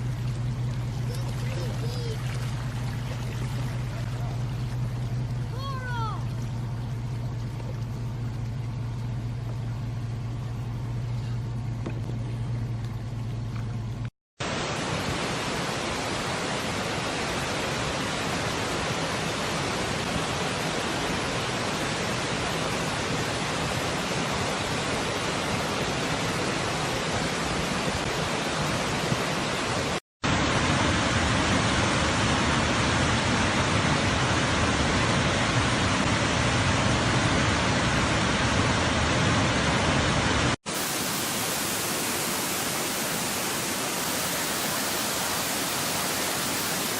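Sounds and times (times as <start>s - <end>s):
waterfall rushing: 0.8s - 6.7s, 14.4s - 46.9s.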